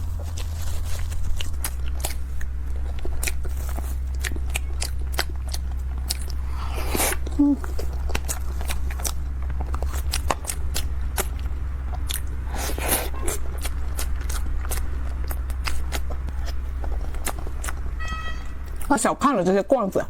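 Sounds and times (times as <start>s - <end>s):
crunching of crisp food: 0.0s - 19.0s.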